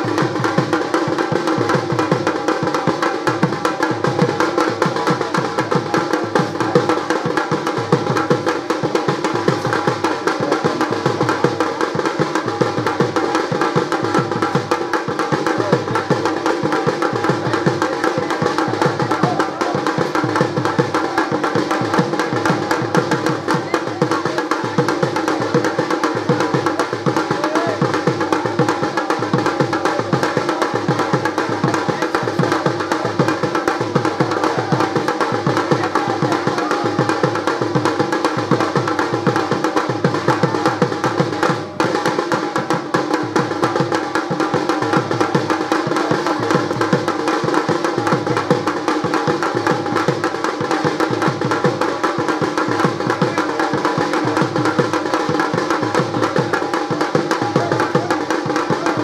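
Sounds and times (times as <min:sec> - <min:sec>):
fast folk drumbeat: 0:00.0 - 0:59.0.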